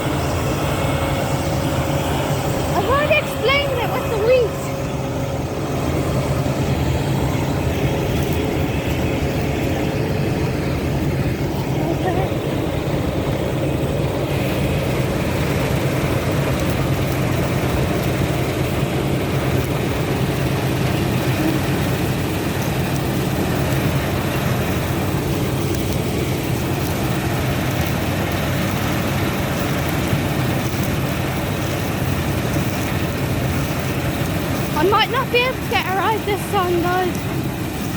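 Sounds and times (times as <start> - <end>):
combine harvester running: 0.0 - 37.9.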